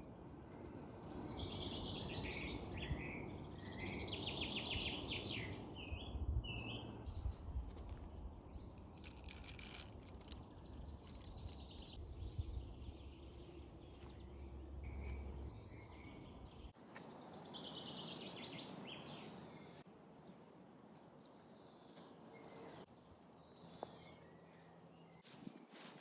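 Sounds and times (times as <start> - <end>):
small birds singing: 0.0 - 19.9, 20.9 - 25.3.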